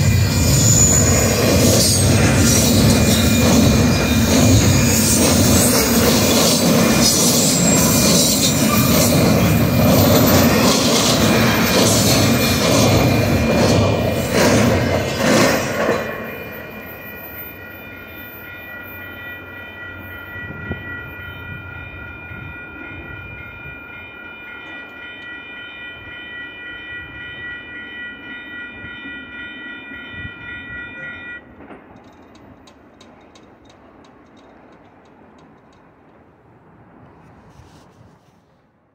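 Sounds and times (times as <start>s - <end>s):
crossing warning bell ringing: 0.0s - 36.0s
freight train rumble: 0.0s - 38.9s.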